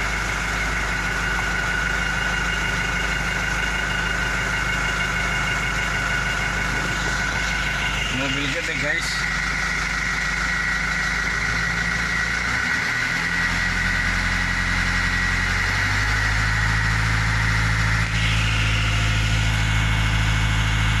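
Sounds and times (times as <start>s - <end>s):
high whine: 0.0s - 21.0s
vehicle engine idling: 0.0s - 21.0s.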